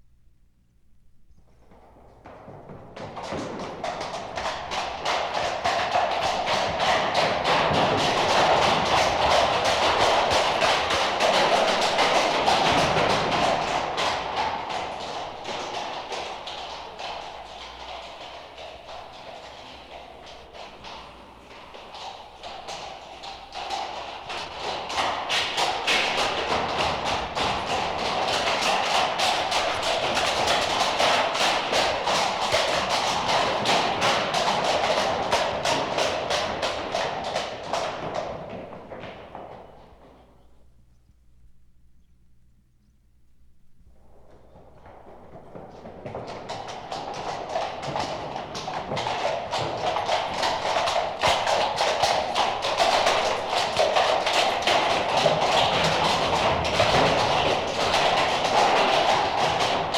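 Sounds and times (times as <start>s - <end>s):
hooves clip-clopping on pavement: 1.1s - 42.5s, 43.2s - 59.9s.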